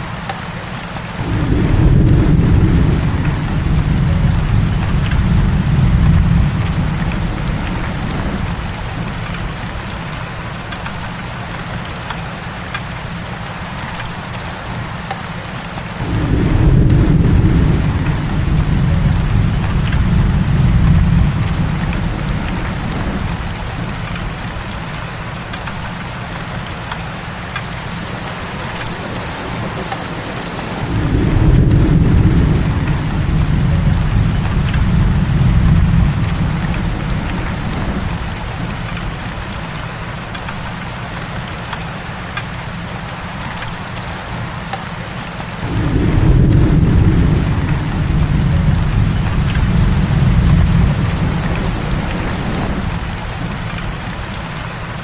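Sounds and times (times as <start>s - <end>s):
heavy rain falling: 0.0s - 55.0s
low rumbles of thunder: 1.2s - 11.3s, 16.0s - 26.9s, 27.5s - 41.8s, 45.6s - 55.0s.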